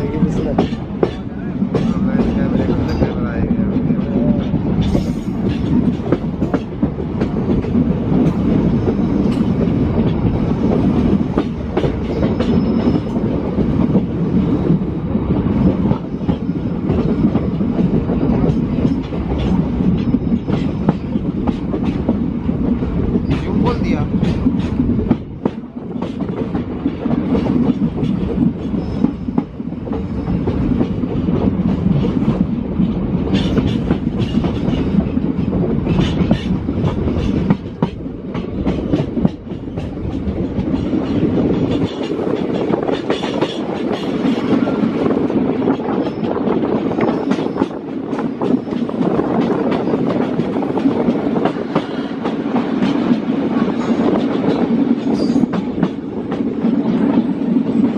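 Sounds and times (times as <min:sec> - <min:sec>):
train rumble inside coach: 0:00.0 - 0:57.9.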